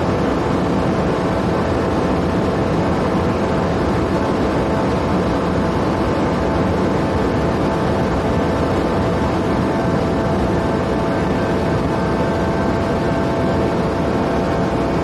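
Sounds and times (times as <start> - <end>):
car engine running hard: 0.0 - 15.0
road and wind noise: 0.0 - 15.0.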